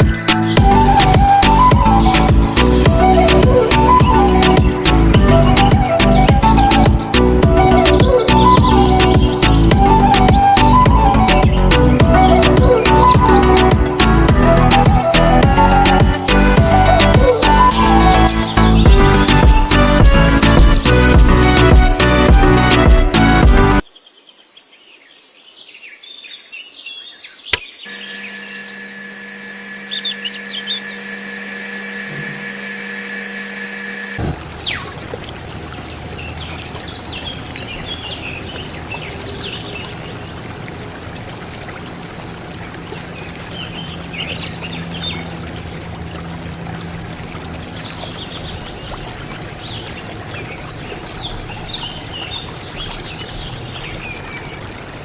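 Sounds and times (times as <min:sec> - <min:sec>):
birds chirping: 0:00.0 - 0:21.8, 0:25.9 - 0:55.0
steady hum: 0:00.0 - 0:22.0, 0:27.9 - 0:55.0.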